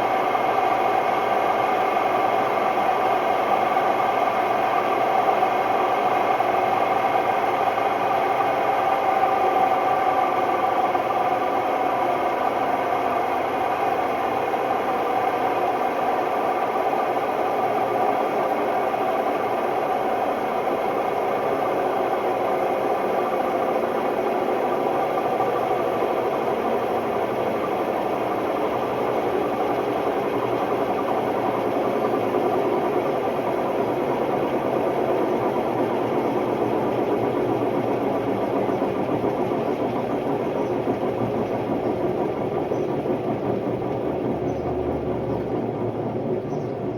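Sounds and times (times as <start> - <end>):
washing machine drum spinning: 0.0 - 46.9.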